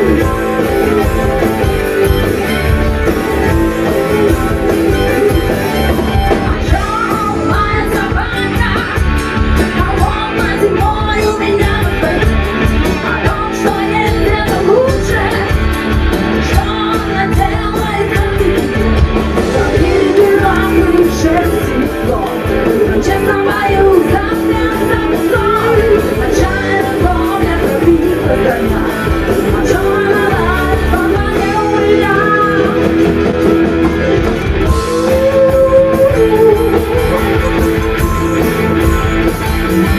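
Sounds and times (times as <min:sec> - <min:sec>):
person singing: 0:00.0 - 0:38.9
bass guitar: 0:00.0 - 0:39.9
drum kit: 0:00.0 - 0:39.9
electric guitar: 0:00.0 - 0:39.9.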